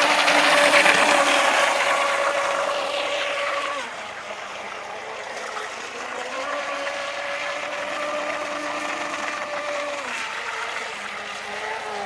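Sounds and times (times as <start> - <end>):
rc boat motor whine: 0.0 - 12.0.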